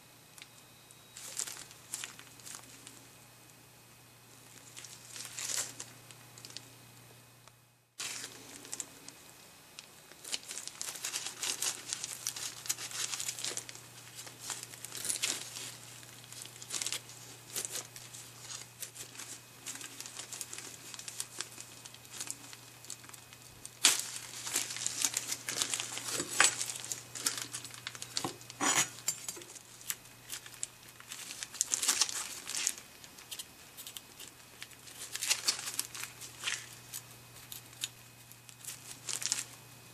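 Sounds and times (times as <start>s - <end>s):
plastic gloves crinkling: 0.4s - 6.8s, 8.0s - 39.9s.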